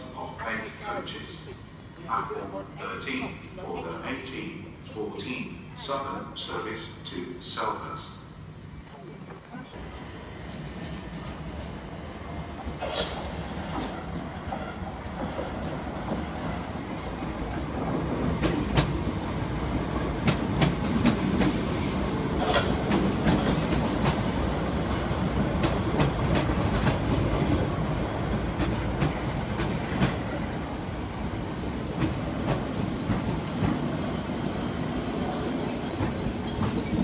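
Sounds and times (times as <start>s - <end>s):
train rumbling slowly: 0.0s - 37.0s.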